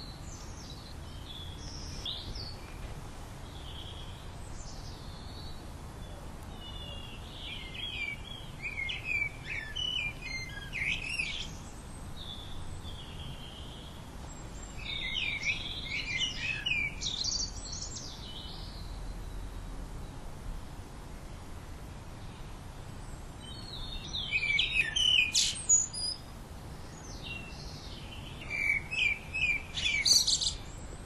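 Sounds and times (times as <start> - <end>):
songbird warbling chirps and trills: 0.0 - 20.3, 22.2 - 31.0.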